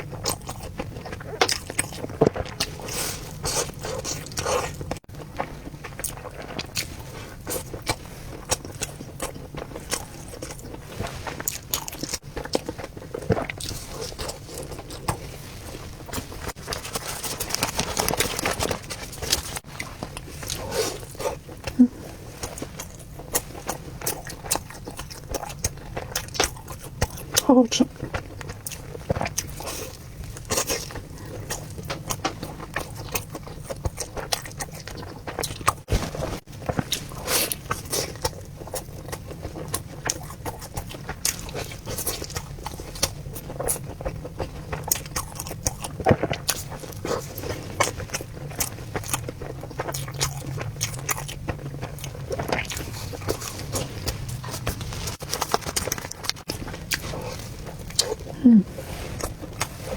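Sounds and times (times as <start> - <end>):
wet chewing: 0.0 - 59.9.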